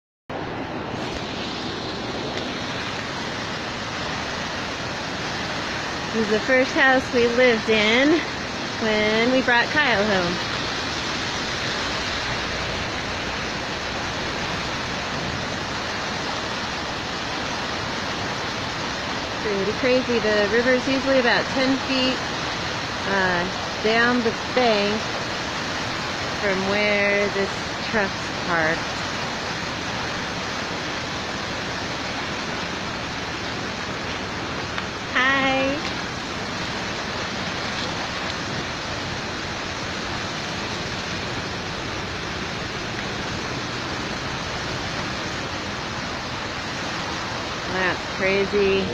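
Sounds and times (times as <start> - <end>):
creek rushing in flood: 0.3 - 48.9.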